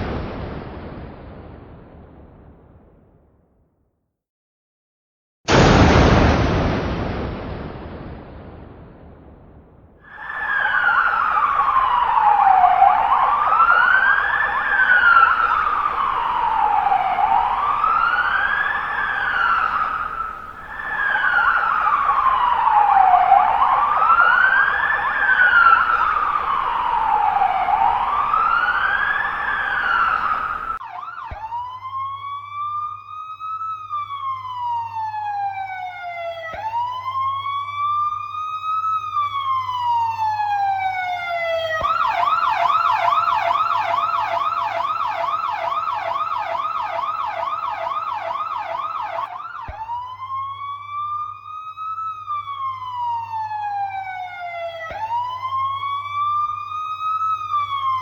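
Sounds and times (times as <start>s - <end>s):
cleaner-toned siren rising and falling: 10.0s - 58.0s
siren wailing up and down: 10.0s - 58.0s.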